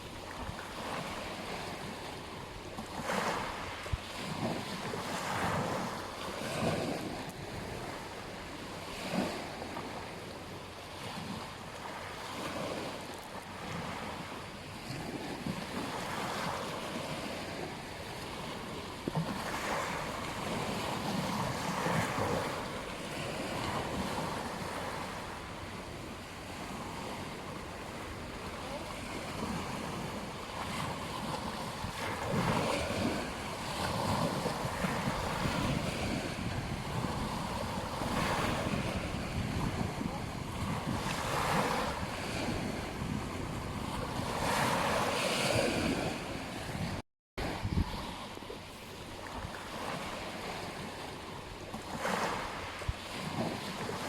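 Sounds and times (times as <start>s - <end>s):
ocean waves on a beach: 0.0s - 54.0s
wind rumble on microphone: 0.0s - 54.0s.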